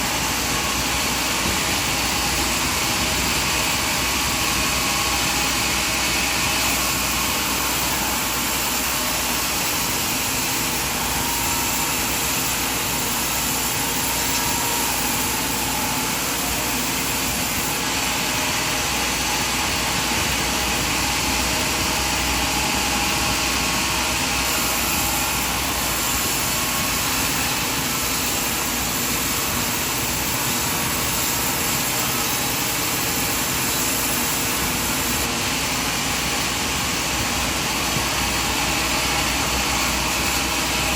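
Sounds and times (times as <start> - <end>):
sawmill machinery whirring: 0.0 - 40.9.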